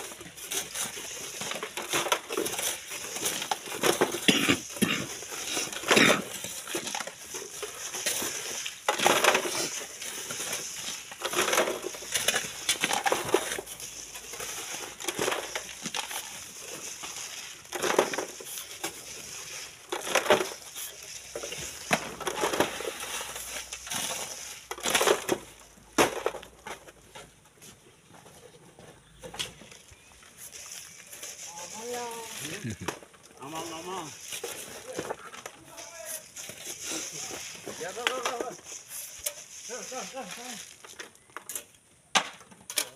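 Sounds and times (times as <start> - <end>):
hand tools scraping into gravel: 0.0 - 41.8.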